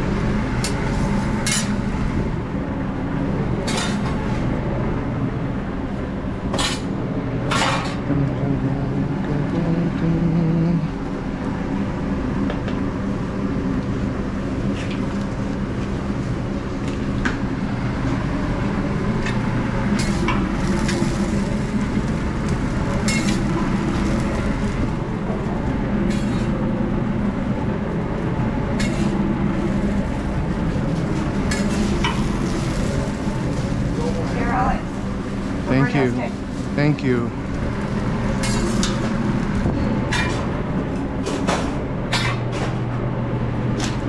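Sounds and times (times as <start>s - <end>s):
kitchen mechanical drone: 0.0s - 44.0s.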